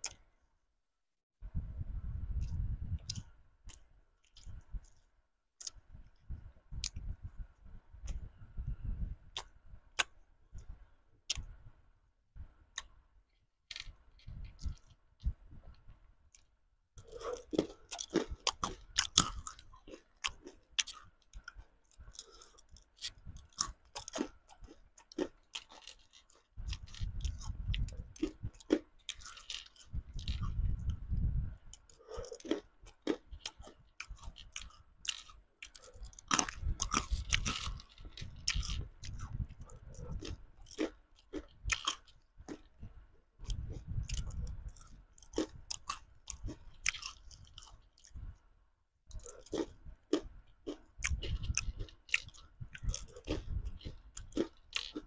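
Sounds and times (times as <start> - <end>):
crunching and chewing candy: 0.0 - 0.3, 2.4 - 8.4, 9.3 - 11.6, 12.4 - 48.5, 49.1 - 55.0.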